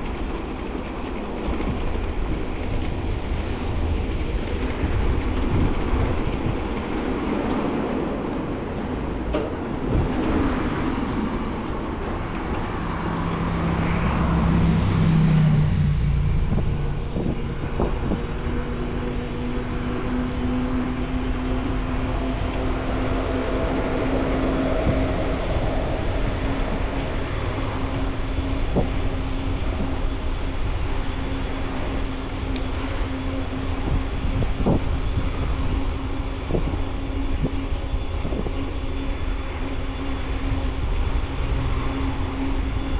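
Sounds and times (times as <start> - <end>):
wind noise: 0.0 - 42.9.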